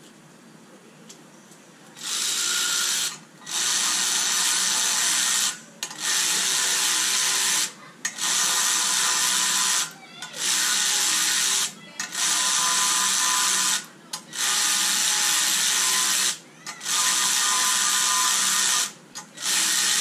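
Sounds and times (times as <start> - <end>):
cordless drill running: 2.0 - 20.0.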